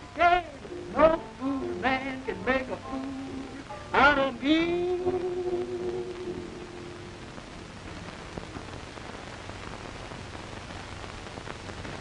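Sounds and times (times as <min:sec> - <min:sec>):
film soundtrack hiss and crackle: 0:00.0 - 0:12.0.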